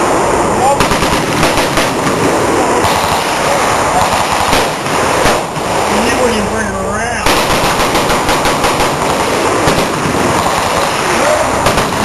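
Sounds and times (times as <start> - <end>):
shooting range noise: 0.0 - 12.0
automatic gunfire: 0.8 - 6.3, 7.2 - 12.0.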